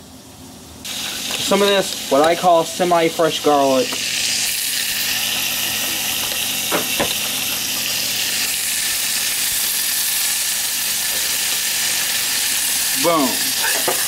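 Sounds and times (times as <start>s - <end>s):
butter and garlic sizzling: 0.8s - 14.0s.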